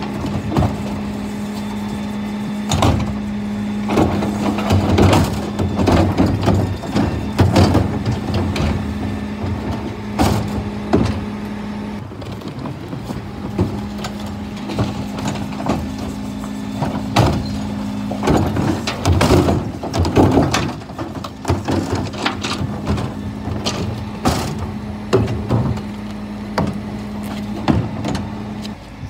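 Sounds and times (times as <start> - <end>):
bins banging and clattering: 0.0 - 28.8
truck engine and hydraulics humming: 0.0 - 29.0.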